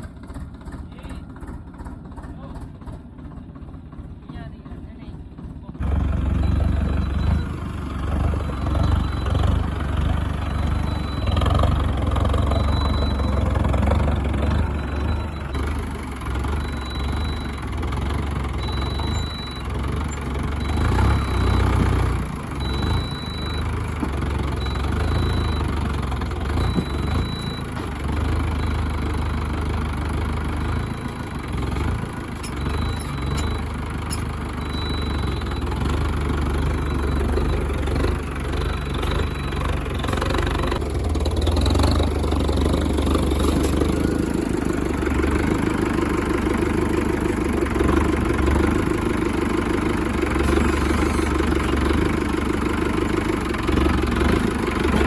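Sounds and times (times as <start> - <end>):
tractor diesel engine rumbling: 0.0 - 55.0.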